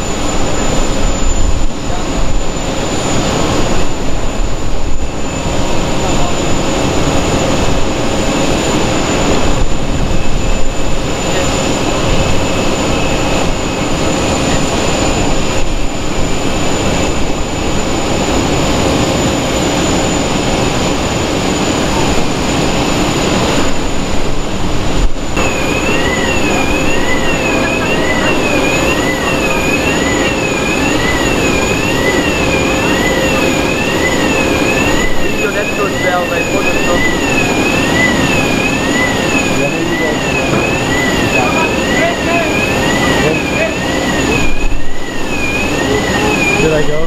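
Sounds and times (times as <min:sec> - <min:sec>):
idling aircraft whine and rumble: 0:00.0 - 0:47.0
two-tone warbling warning tone: 0:00.0 - 0:47.0.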